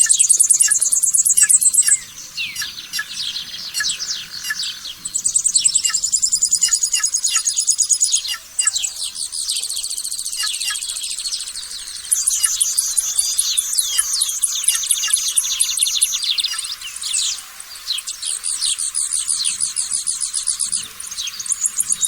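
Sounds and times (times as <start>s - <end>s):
songbirds high rapid trills: 0.0s - 22.0s.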